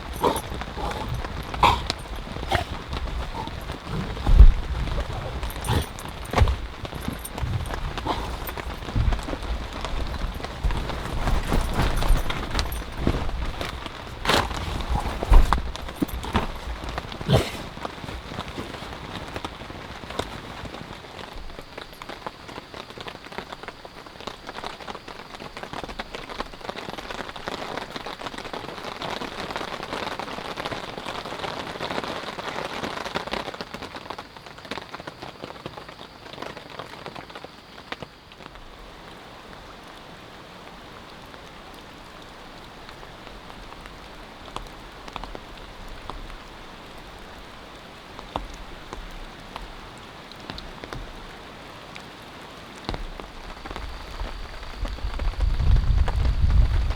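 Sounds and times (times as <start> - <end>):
rain pattering: 0.0 - 56.9.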